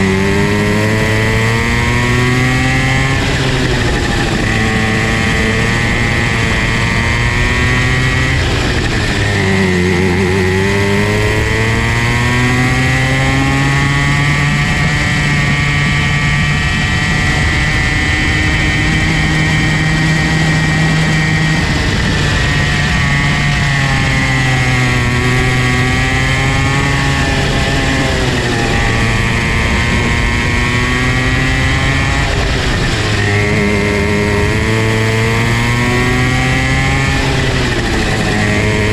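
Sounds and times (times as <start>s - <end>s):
two-stroke kart engine revving: 0.0s - 38.9s.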